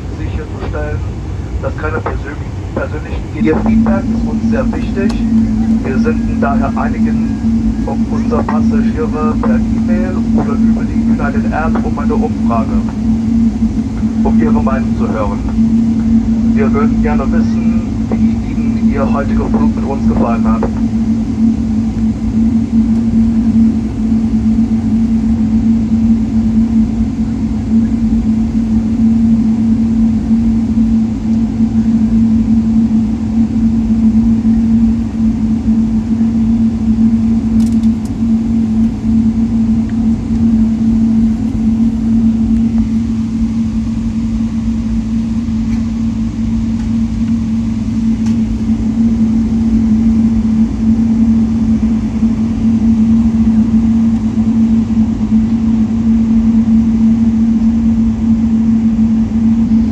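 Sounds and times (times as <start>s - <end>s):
airliner cabin engine hum: 0.0s - 59.9s.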